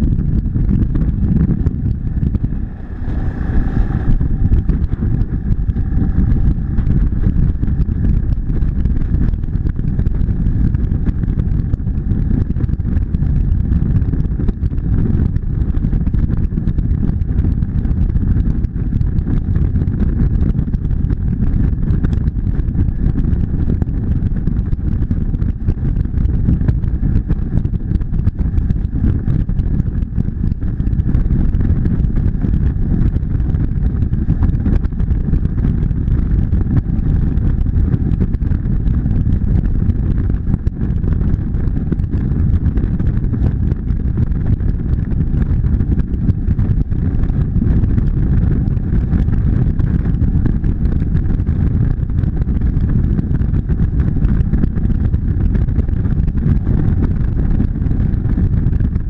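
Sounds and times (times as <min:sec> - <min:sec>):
motorcycle engine drone: 0:00.0 - 0:59.0
wind rumble on microphone: 0:00.0 - 0:59.0.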